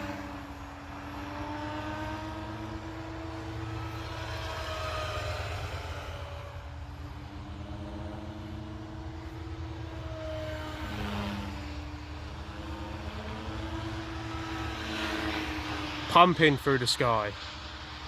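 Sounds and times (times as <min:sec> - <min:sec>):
rc helicopter rotor hum: 0:00.0 - 0:18.0.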